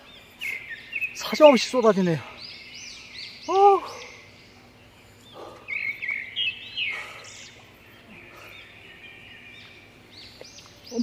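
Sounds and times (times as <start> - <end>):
faint outdoor background: 0.0 - 11.0
songbirds chirping: 0.0 - 11.0.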